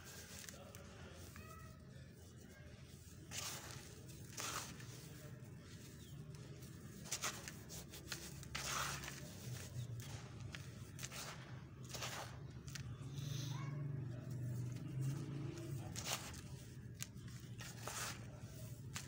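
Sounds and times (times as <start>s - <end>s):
dry sand mix crunching: 0.0s - 19.0s.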